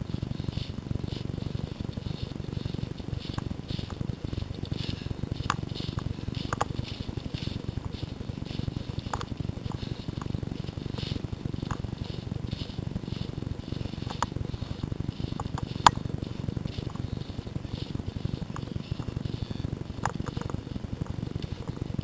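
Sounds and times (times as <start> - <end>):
camera jostling rumble: 0.0 - 22.0
footsteps crunching through dry leaves: 0.0 - 22.0.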